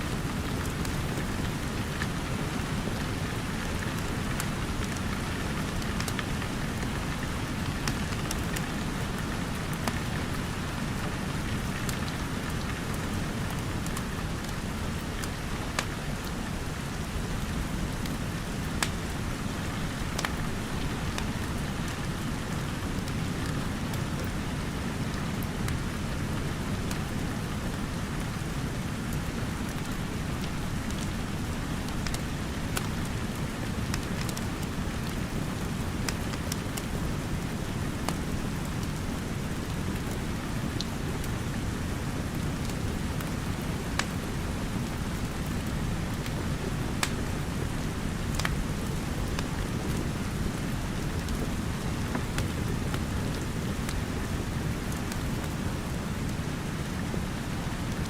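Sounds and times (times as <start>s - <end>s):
steady rain falling: 0.0s - 58.0s
wood fire crackling: 0.1s - 22.4s, 27.9s - 58.0s.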